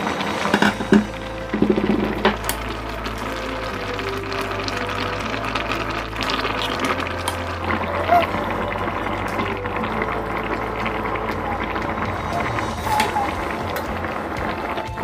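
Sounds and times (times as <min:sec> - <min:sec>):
stew bubbling in a pot: 0:00.0 - 0:15.0.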